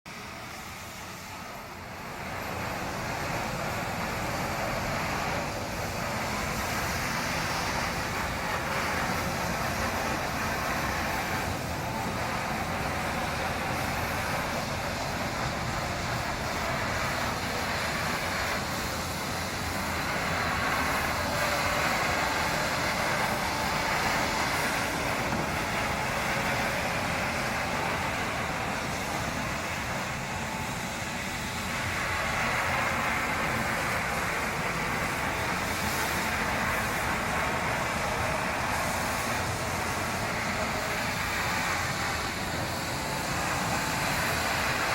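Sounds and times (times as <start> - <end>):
floor-cleaning machine whirring: 0.1 - 44.9.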